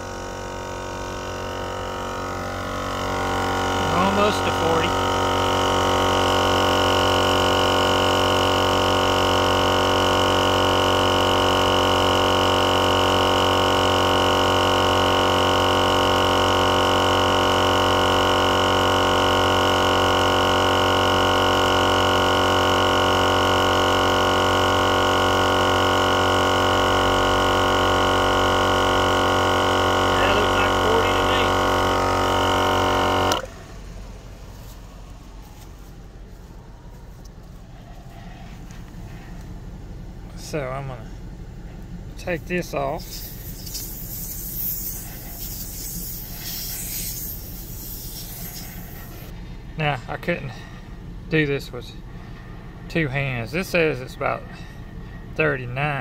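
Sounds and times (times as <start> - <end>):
air compressor droning: 0.0 - 56.0.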